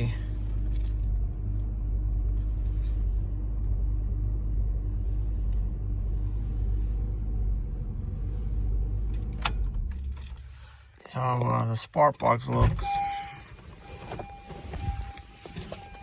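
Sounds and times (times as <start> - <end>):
car engine idling unevenly: 0.0 - 16.0.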